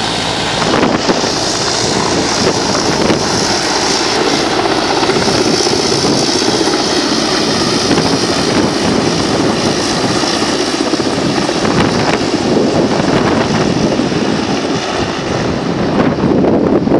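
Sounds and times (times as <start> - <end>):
helicopter flying overhead: 0.0 - 16.9.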